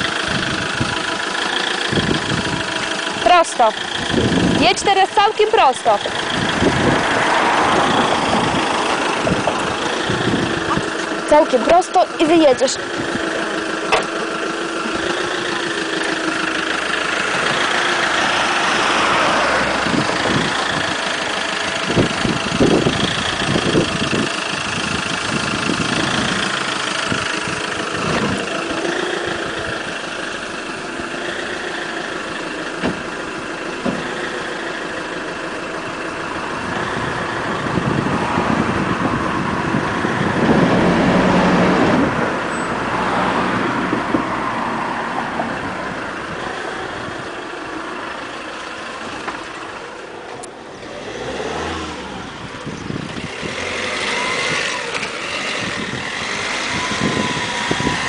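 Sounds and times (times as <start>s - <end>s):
truck engine at low revs: 0.0s - 58.0s.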